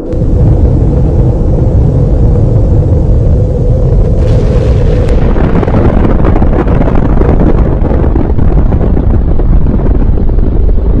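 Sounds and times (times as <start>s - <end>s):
explosion low rumble: 0.0s - 11.0s.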